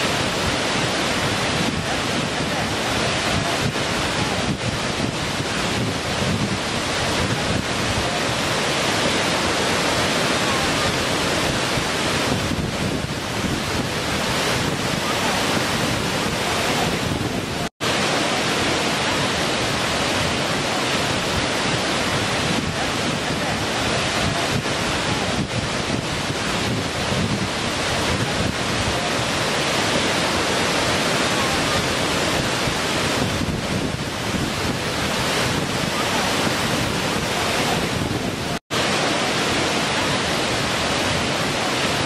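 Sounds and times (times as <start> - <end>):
waterfall rushing over rock: 0.0 - 42.0.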